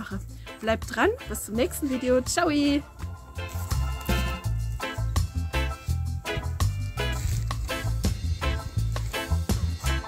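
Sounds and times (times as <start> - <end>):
bass line: 1.1 - 10.0.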